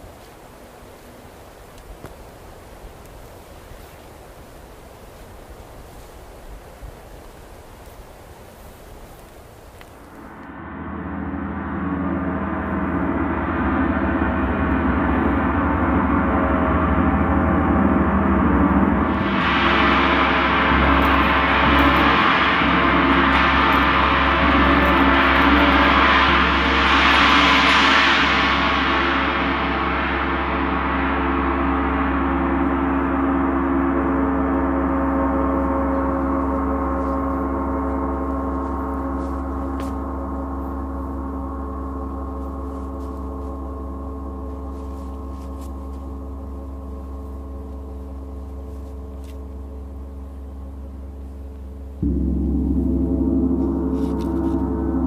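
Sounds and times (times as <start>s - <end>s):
gongs ringing: 10.1s - 55.0s.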